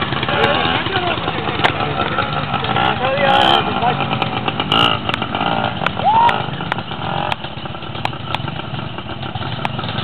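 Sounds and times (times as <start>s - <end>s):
off-road motorbike engines: 0.0s - 10.0s.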